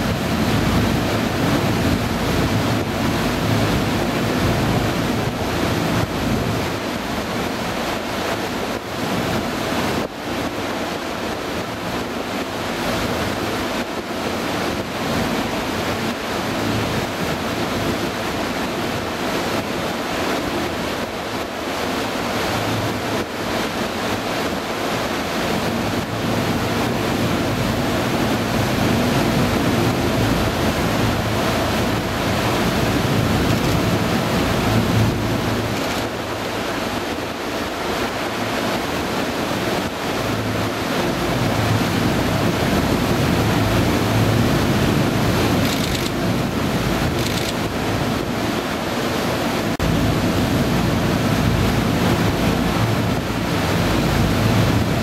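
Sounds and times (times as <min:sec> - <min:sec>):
boat engine running: 0:00.0 - 0:55.0
water washing past hull: 0:00.0 - 0:55.0
wind on microphone: 0:00.0 - 0:55.0.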